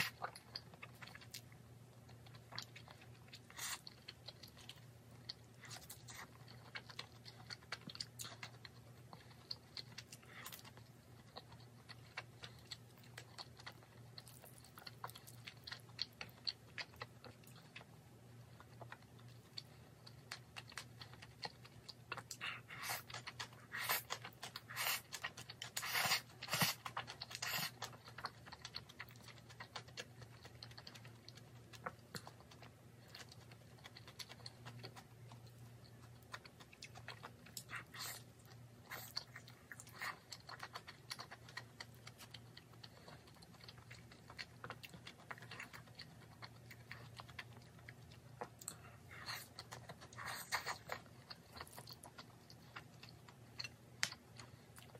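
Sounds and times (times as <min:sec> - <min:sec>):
chewing with wet clicks: 0:00.0 - 0:54.9.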